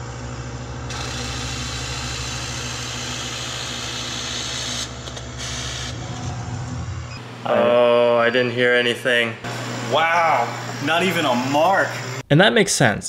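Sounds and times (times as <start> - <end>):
laser cutter machine hum: 0.0 - 8.4, 9.5 - 12.2.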